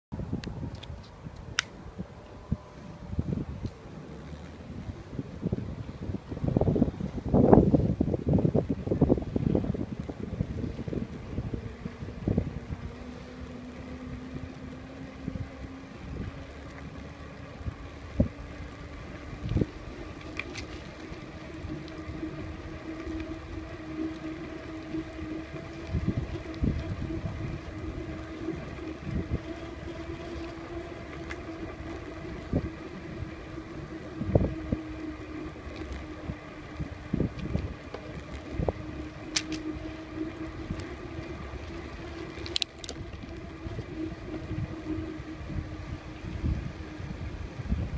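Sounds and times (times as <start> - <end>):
steady hum: 0.2 - 47.9
bicycle rolling over bricks: 2.8 - 47.9.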